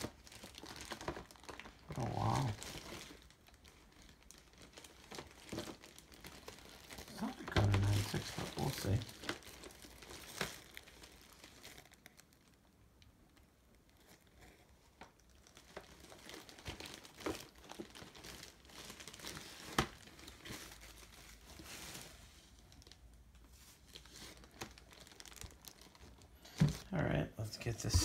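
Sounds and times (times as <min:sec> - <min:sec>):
paper crinkling and rustling: 0:00.0 - 0:12.6, 0:13.7 - 0:26.9.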